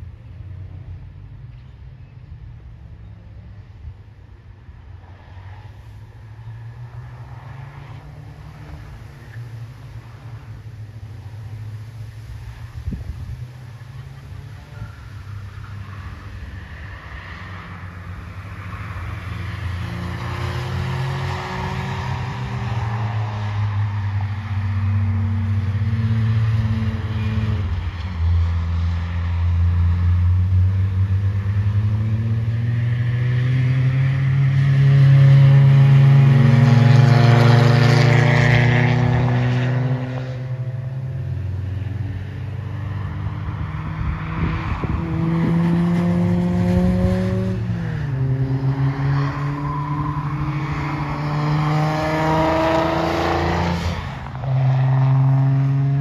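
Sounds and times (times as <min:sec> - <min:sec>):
race car engines revving: 0:00.0 - 0:56.0
race car passing close: 0:05.2 - 0:56.0.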